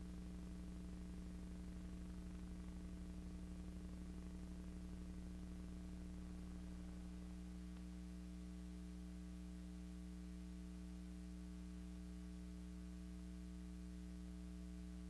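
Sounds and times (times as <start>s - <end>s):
electrical mains hum with hiss: 0.0s - 15.0s.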